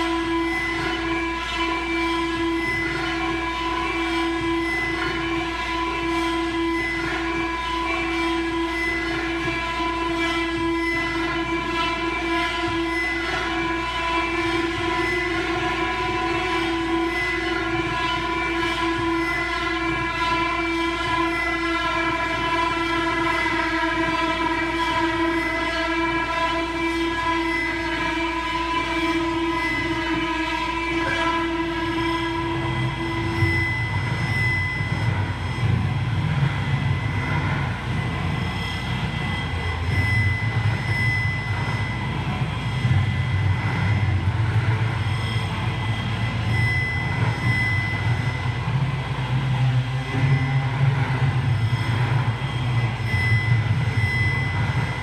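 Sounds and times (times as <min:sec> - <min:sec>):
sustained chord drone: 0:00.0 - 0:55.0.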